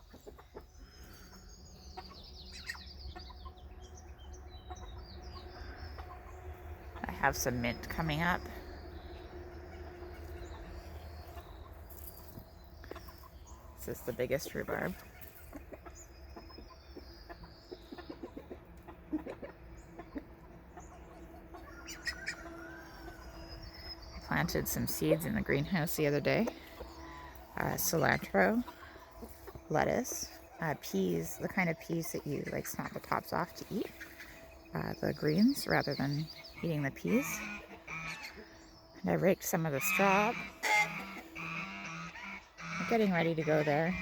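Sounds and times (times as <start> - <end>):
chickens clucking: 0.0 - 44.0
small birds chirping: 0.0 - 44.0
steady low rumble: 1.4 - 37.7.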